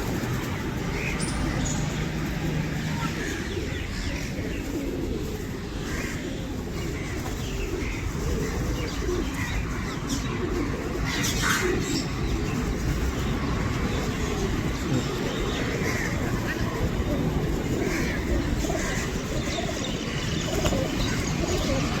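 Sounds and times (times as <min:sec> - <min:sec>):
flock of birds calling: 0:00.0 - 0:22.0.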